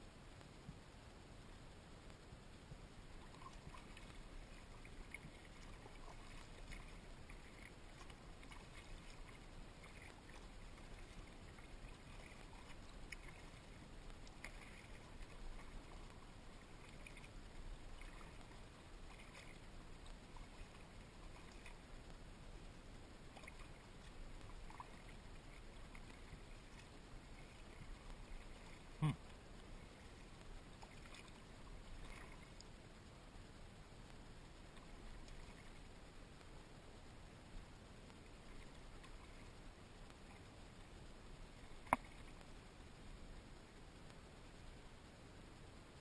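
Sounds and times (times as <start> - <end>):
low steady rumble: 0.0 - 46.0
paddle dipping and dripping: 2.1 - 32.8, 34.5 - 36.7, 37.3 - 40.8, 41.4 - 43.2.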